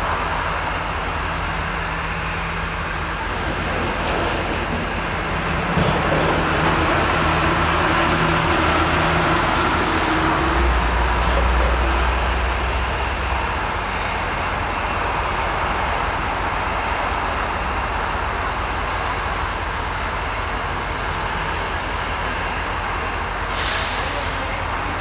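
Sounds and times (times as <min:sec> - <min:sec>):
locomotive engine drone: 0:00.0 - 0:25.0.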